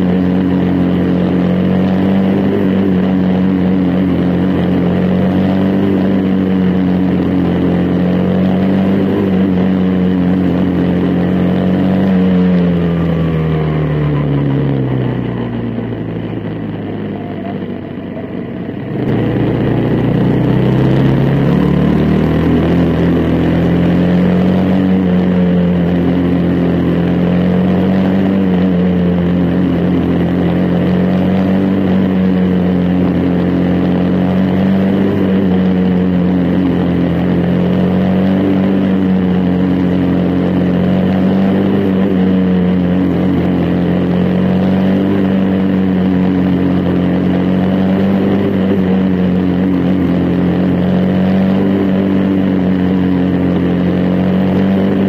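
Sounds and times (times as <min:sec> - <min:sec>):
small race car engine running: 0:00.0 - 0:55.0.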